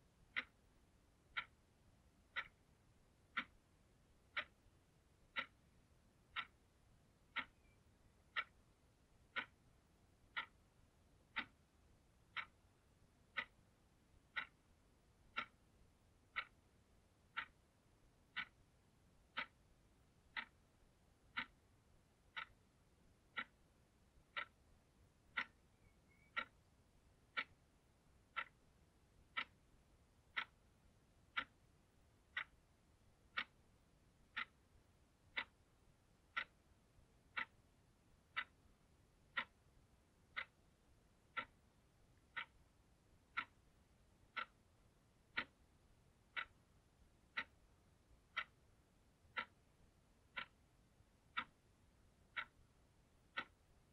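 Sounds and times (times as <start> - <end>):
analogue clock ticking: 0.0 - 53.9.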